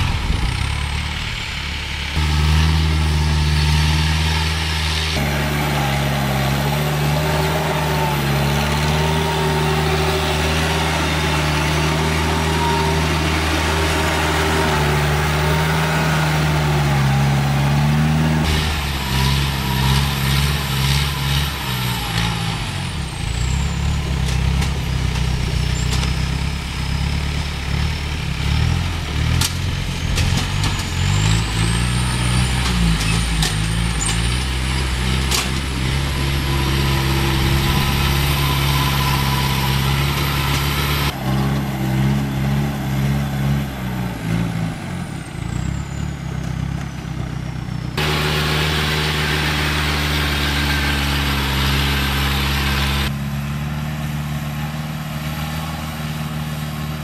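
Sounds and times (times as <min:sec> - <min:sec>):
harvester engine running: 0:00.0 - 0:57.0.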